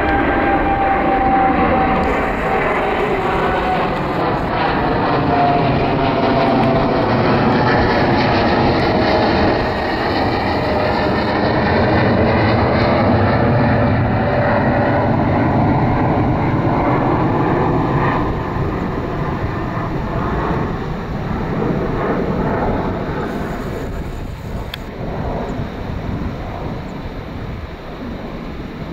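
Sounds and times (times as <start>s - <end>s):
jet engines roaring: 0.0s - 28.9s.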